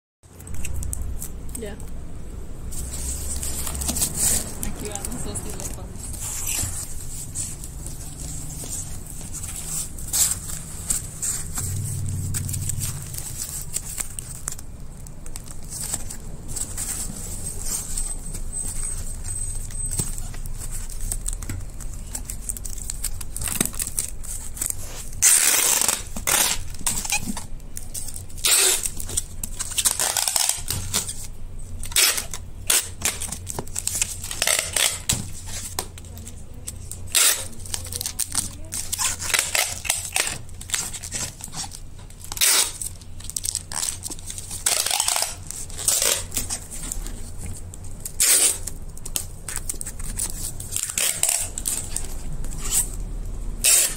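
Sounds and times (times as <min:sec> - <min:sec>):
plastic film crinkling: 0:00.3 - 0:53.9
cardboard rustling: 0:02.6 - 0:53.9.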